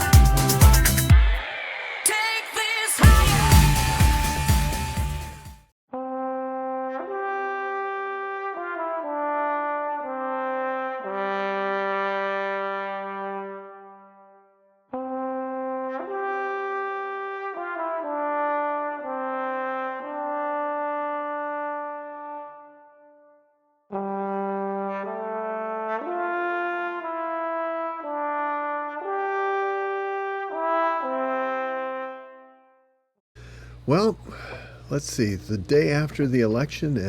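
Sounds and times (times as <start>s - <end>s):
slow brass melody: 3.0s - 33.0s.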